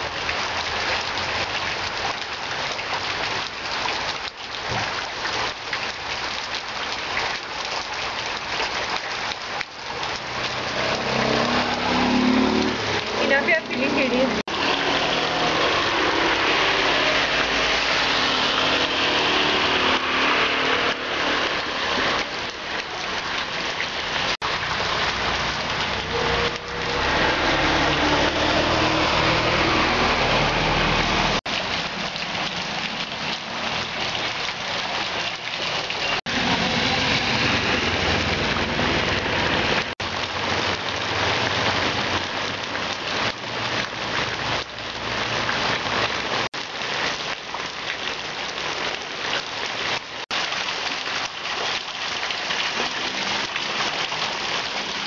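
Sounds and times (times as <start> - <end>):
flowing runoff water: 0.0 - 55.0
heavy rain on road: 0.0 - 55.0
truck passing on wet road: 9.9 - 55.0.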